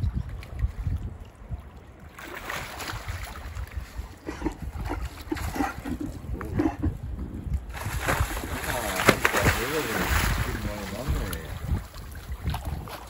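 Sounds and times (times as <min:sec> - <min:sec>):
water lapping and splashing: 0:00.0 - 0:13.0
wind buffeting microphone: 0:00.0 - 0:13.0.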